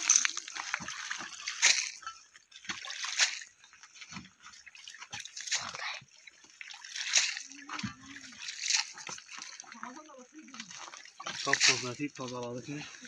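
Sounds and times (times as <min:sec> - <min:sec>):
water and ice splashing: 0:00.0 - 0:13.0.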